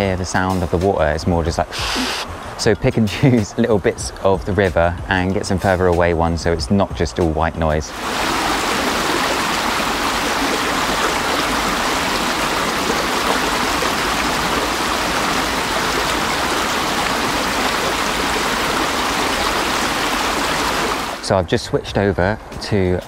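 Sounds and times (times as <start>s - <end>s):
stream water flowing: 0.0s - 6.6s, 7.9s - 23.0s.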